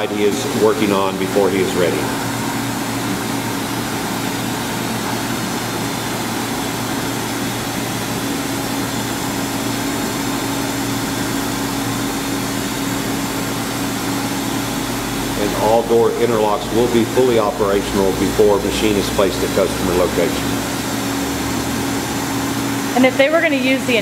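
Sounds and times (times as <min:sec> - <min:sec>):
machine hum with constant tone: 0:00.0 - 0:24.0.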